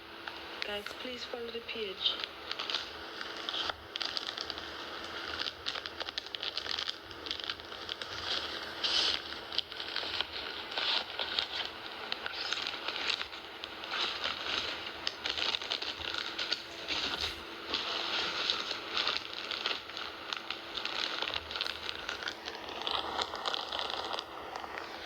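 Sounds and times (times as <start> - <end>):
packaging crinkling: 0.2 - 25.0.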